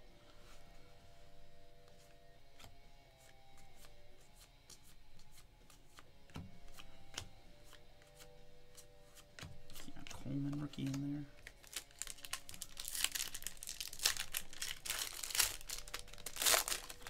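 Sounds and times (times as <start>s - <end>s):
faint music with held notes: 0.0s - 17.0s
cards being flipped through: 1.8s - 17.0s.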